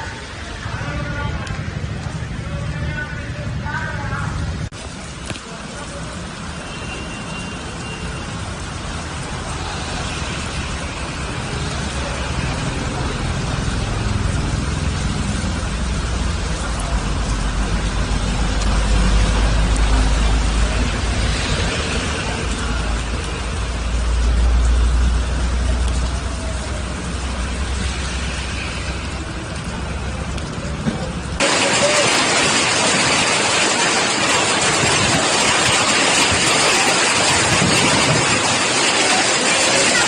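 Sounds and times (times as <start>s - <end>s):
heavy vehicles rumbling: 0.0s - 40.0s
passing vehicles: 0.0s - 40.0s.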